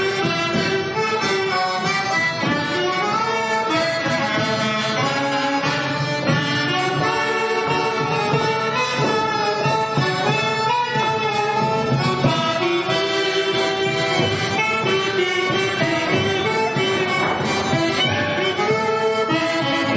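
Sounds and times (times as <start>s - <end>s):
folk dance music: 0.0s - 19.9s.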